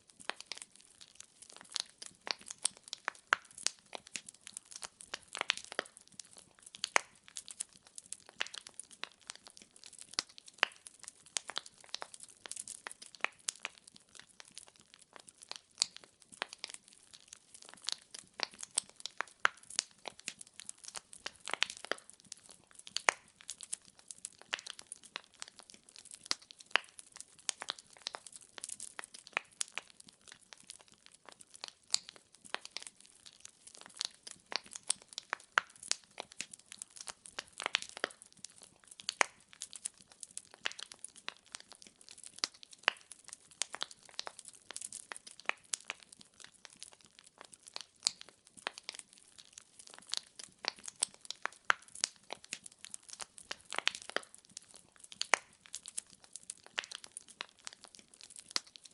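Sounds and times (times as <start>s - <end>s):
firewood crackling: 0.0s - 58.9s.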